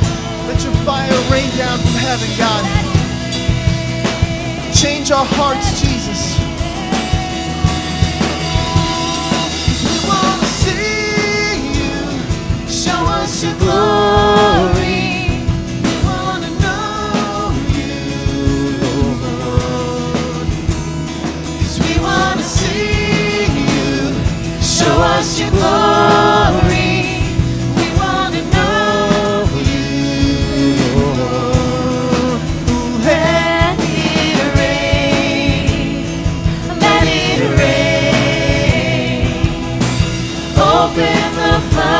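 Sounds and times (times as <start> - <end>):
person singing: 0.0 - 20.8, 21.7 - 41.9
worship band with drum kit: 0.0 - 41.9.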